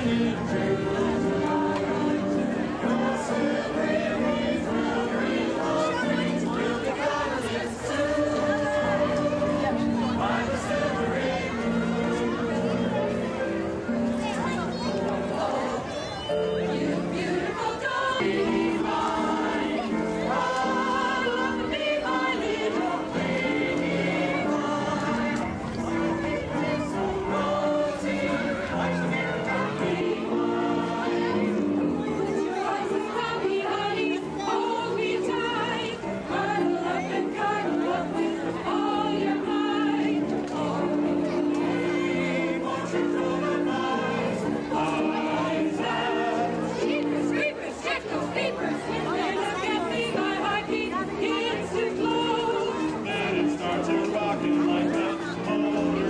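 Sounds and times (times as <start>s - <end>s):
group of women singing: 0.0s - 13.1s, 15.2s - 56.0s.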